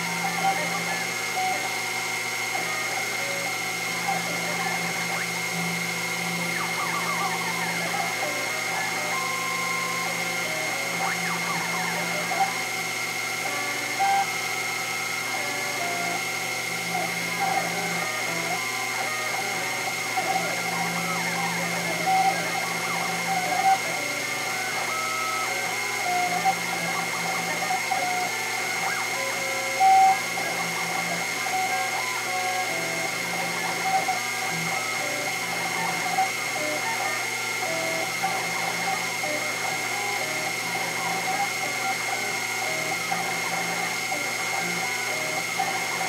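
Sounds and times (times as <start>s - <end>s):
end mill cutting plastic: 0.0s - 46.0s
spindle high whine: 0.0s - 46.0s
stepper motor tones: 0.0s - 46.0s.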